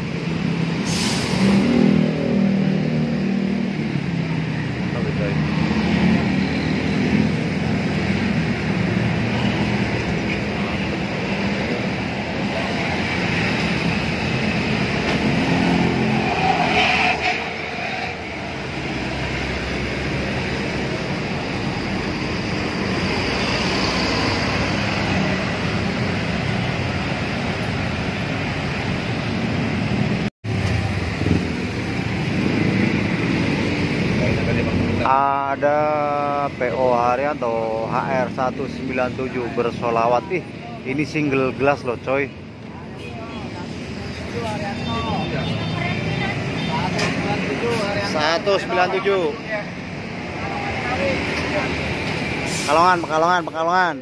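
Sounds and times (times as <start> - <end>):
road traffic: 0.0 - 54.0
motorcycles passing: 1.5 - 53.0.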